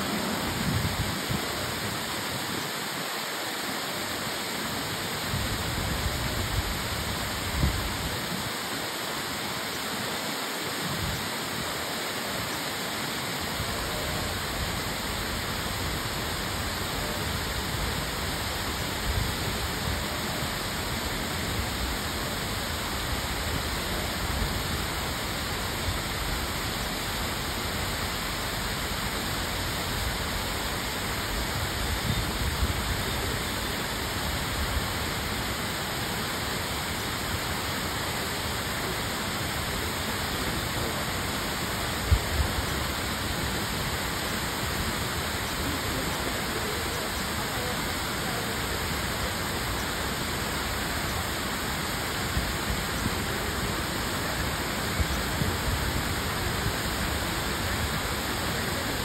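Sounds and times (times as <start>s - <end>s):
steady rushing hiss: 0.0s - 59.0s.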